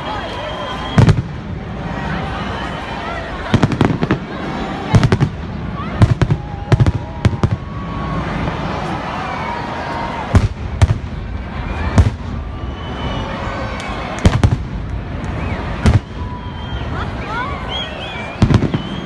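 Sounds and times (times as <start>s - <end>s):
noisy fireworks din: 0.0s - 19.0s.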